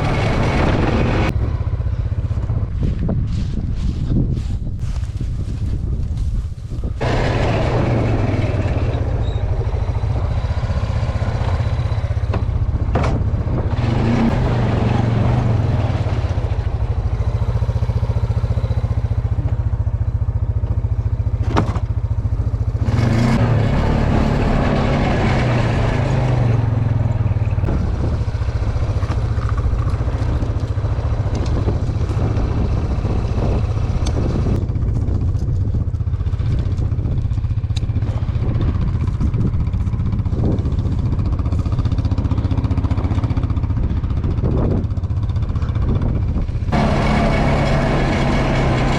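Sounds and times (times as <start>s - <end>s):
small engine running: 7.0s - 12.8s, 13.4s - 48.9s.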